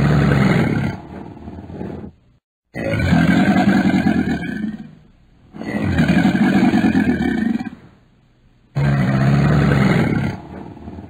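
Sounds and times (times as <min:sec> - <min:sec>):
animal deep rasping calls: 0:00.0 - 0:07.9, 0:08.7 - 0:11.0.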